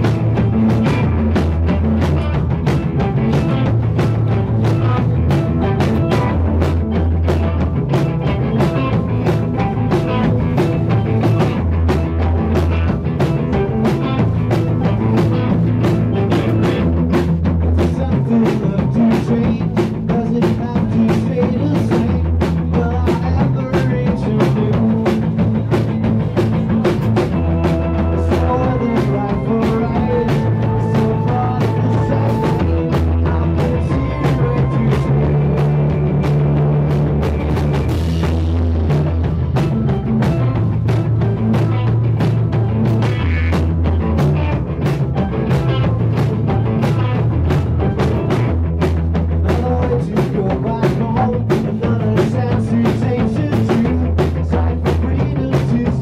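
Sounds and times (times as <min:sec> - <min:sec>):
bass: 0:00.0 - 0:56.0
drum kit beat: 0:00.0 - 0:56.0
electric guitar: 0:00.0 - 0:56.0.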